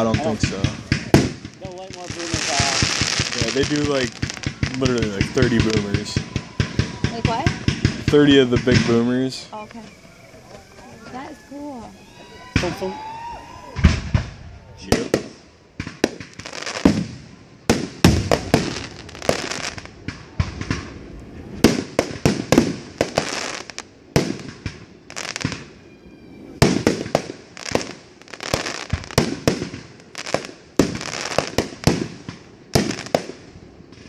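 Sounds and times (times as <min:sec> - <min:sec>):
firework crackling: 0:00.0 - 0:34.0
firework shells bursting: 0:00.0 - 0:34.0.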